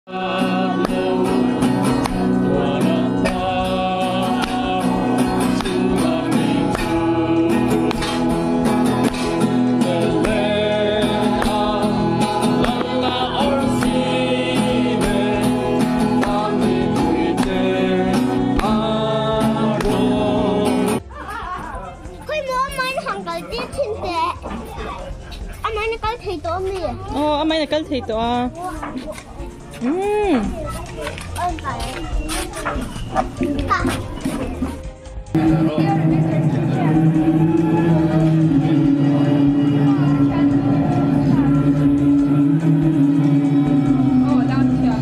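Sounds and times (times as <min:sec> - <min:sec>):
song with singing and beat: 0:00.1 - 0:21.1, 0:28.6 - 0:45.0.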